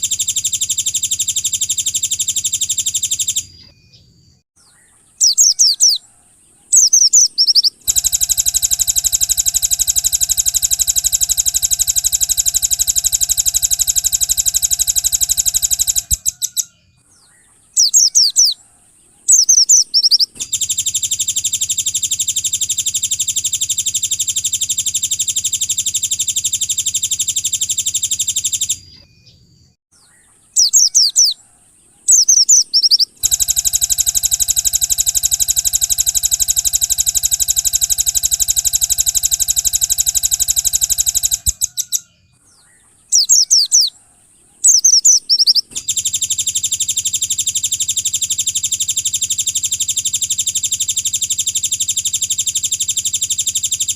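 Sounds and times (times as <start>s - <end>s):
quick sweeping bird chirps: 4.6s - 29.2s, 30.0s - 53.9s
buzzing bird trills: 4.9s - 16.7s, 17.7s - 28.8s, 30.6s - 42.0s, 43.1s - 53.9s.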